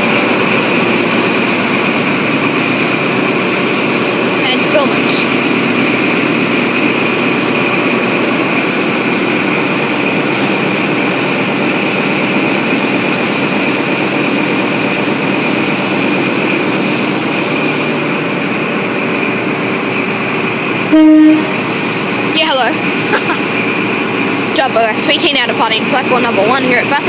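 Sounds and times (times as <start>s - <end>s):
high whine: 0.0s - 26.4s
diesel engine droning: 0.0s - 27.0s.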